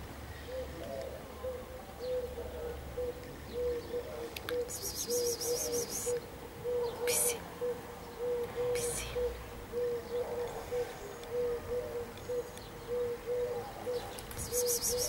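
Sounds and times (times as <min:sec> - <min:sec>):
bird low hooting notes: 0:00.3 - 0:15.0.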